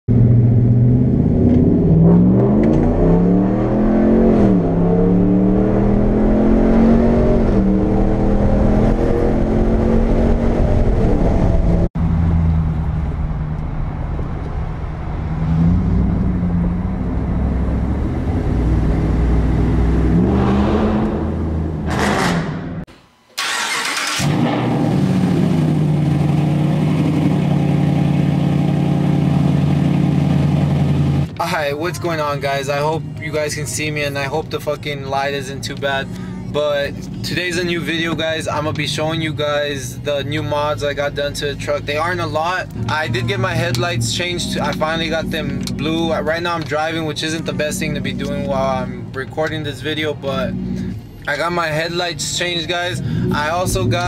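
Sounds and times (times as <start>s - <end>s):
pickup engine revving: 0.1s - 13.7s, 15.2s - 31.4s, 32.5s - 54.0s.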